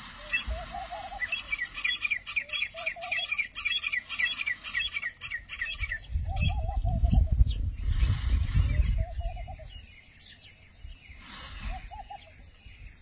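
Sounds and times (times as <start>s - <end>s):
birds chirping: 0.0s - 13.0s
low warbling bird calls: 0.0s - 13.0s.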